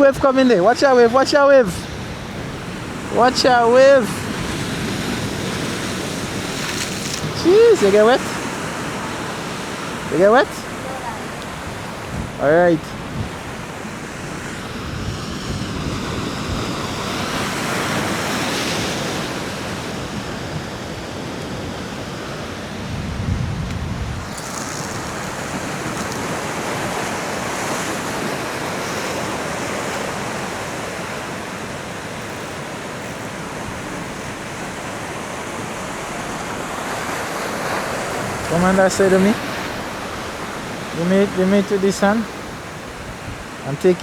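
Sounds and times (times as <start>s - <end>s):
surf breaking against rocks: 0.0s - 22.6s, 24.0s - 44.0s
wind buffeting microphone: 1.6s - 44.0s.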